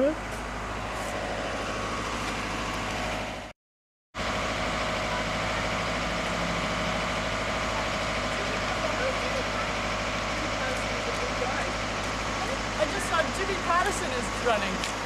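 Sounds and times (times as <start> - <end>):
vehicle engine idling: 0.0 - 3.5, 4.2 - 15.0.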